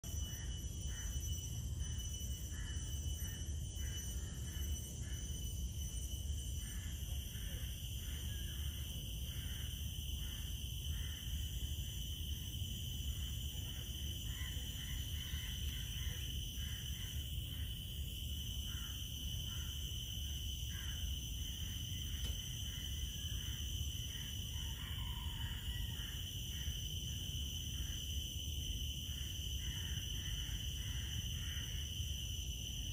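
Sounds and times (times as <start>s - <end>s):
insects droning: 0.0s - 32.9s.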